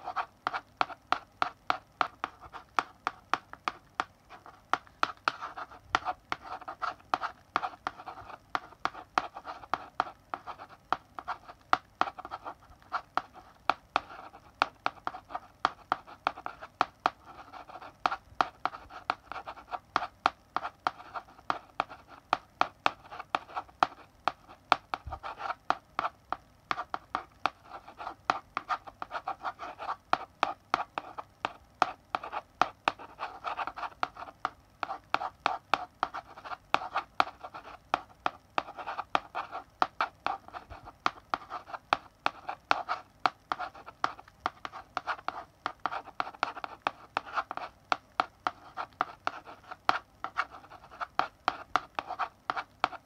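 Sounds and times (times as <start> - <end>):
chalk scratching on blackboard: 0.0 - 53.0.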